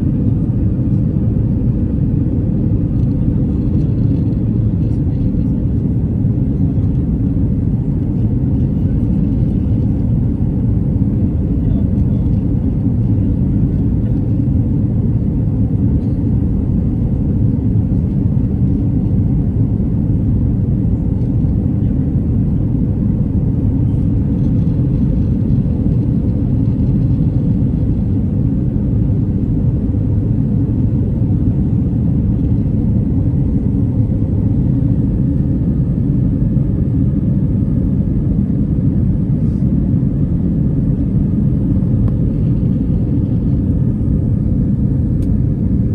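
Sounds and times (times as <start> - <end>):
jet engine cabin rumble: 0.0 - 45.9.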